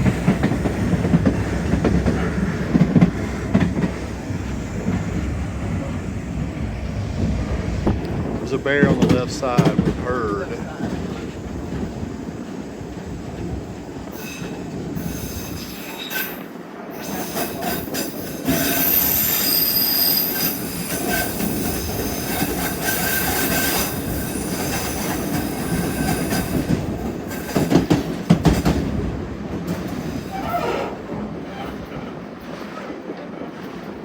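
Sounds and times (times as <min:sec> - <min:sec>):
train rolling along track: 0:00.0 - 0:34.0.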